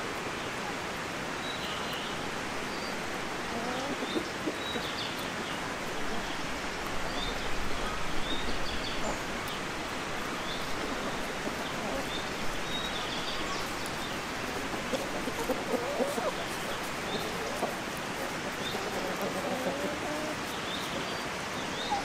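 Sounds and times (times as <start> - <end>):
steady outdoor hiss: 0.0 - 22.0
small birds chirping: 1.4 - 22.0.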